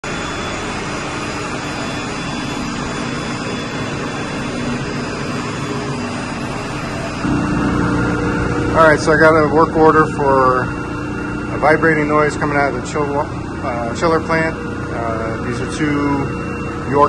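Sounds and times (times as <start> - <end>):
chiller plant mechanical drone: 0.0 - 17.0
deep hum: 0.0 - 17.0.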